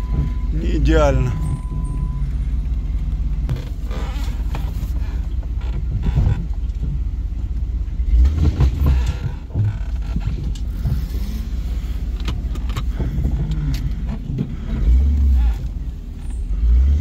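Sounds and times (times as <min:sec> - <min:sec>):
knocks and bumps: 0:00.0 - 0:02.2, 0:03.4 - 0:16.6
vehicle body creaking: 0:00.0 - 0:17.0
vehicle engine running low: 0:00.0 - 0:17.0.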